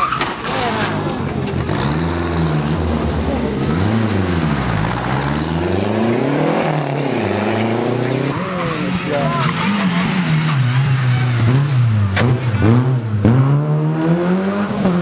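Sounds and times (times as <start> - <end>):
car engine accelerating hard: 0.1 - 15.0.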